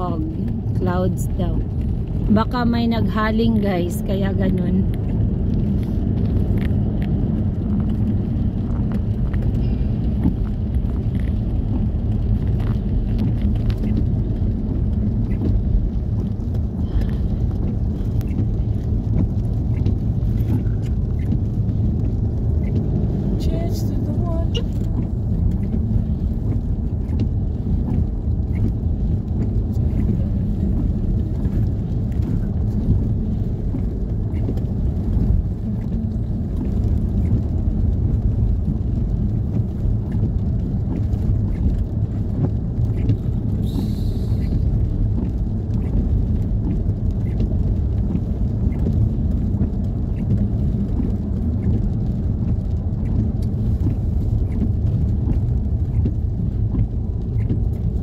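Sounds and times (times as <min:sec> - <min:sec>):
vehicle engine and tyre rumble: 0:00.0 - 0:58.0.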